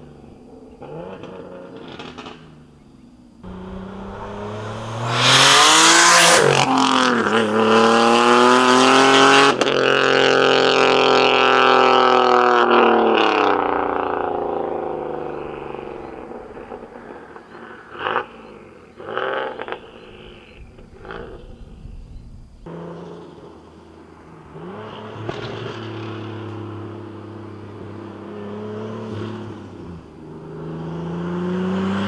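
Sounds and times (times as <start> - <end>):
car engine accelerating hard: 0.0 - 2.8, 3.4 - 32.0.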